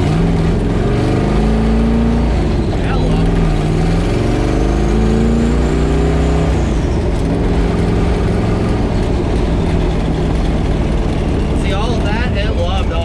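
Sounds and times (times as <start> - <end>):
car engine pulling under load: 0.0 - 13.0.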